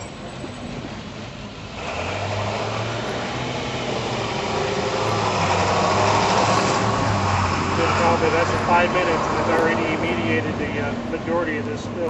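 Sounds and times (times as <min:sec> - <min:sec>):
engine running with hiss: 0:00.0 - 0:12.0.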